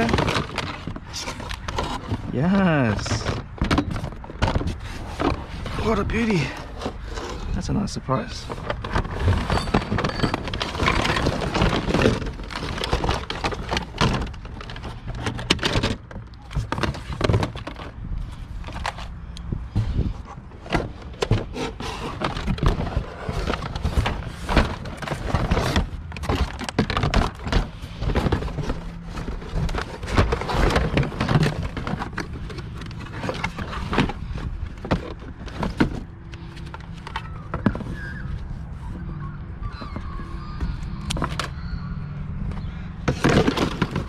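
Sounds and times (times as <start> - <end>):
scrap items knocking and clattering: 0.0 - 38.1, 42.5 - 44.0.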